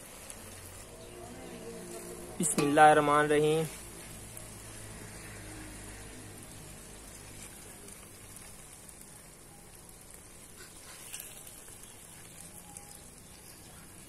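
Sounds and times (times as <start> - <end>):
curry sizzling in a pot: 0.0 - 14.0.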